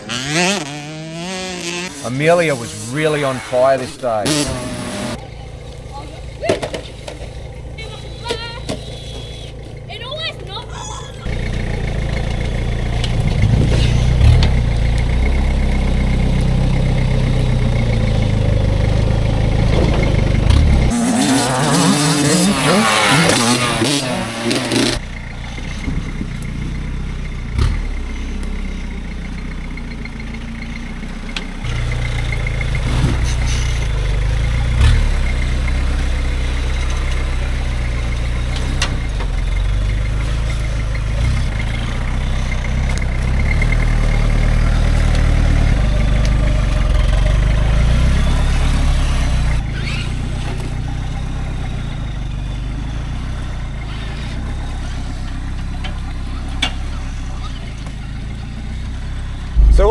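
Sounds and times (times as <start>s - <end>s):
diesel truck engine at low revs: 0.0s - 59.9s.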